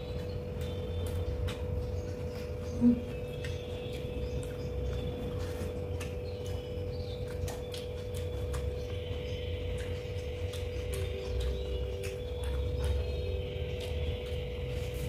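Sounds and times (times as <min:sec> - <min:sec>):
chewing: 0:00.0 - 0:15.0
fingers clicking in rice: 0:00.0 - 0:15.0
steady hum: 0:00.0 - 0:15.0.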